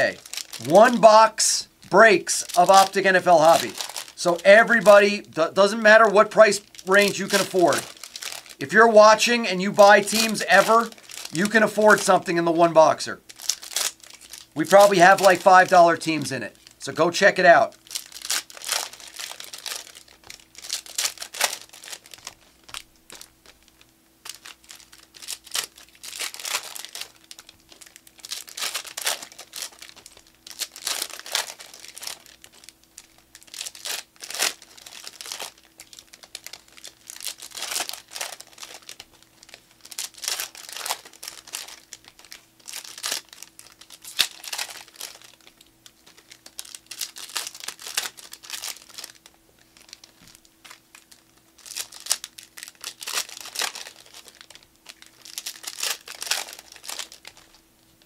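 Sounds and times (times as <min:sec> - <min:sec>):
foil wrappers crinkling and tearing: 0:00.0 - 0:58.0.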